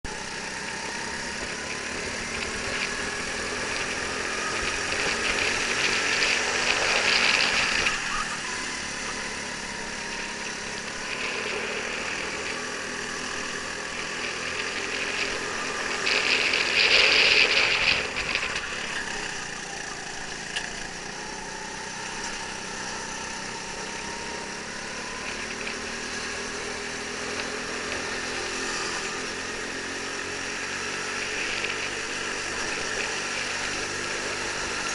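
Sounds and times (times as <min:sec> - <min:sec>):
go-kart engine revving: 0:00.0 - 0:34.9.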